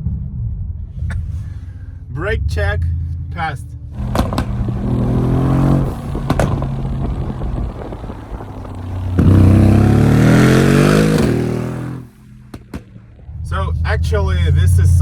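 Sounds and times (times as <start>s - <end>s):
car engine revving: 0.3s - 15.0s.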